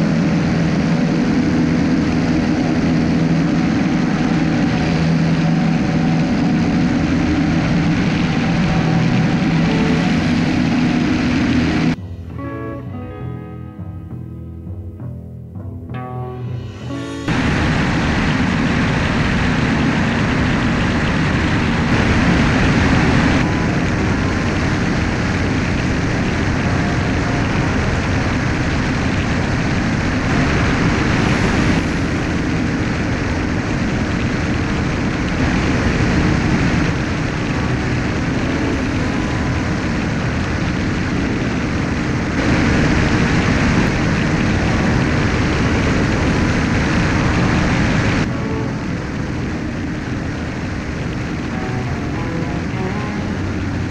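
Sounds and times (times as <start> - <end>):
rushing airflow: 0.0 - 12.0, 16.6 - 53.9
propeller aircraft engine: 0.0 - 12.1, 16.4 - 53.9.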